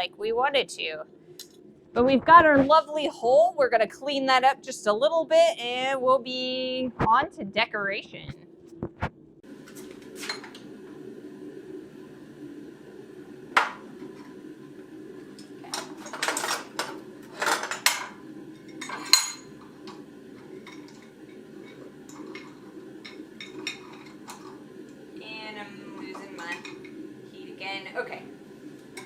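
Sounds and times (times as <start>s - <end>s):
steady low hum: 0.0s - 15.8s, 18.2s - 29.0s.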